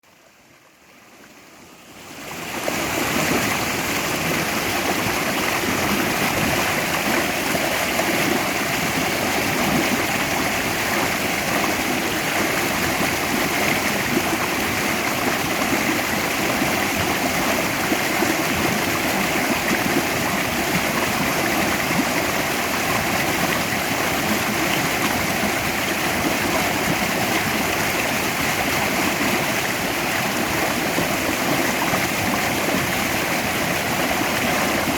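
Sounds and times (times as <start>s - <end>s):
stream rushing: 0.1s - 34.9s.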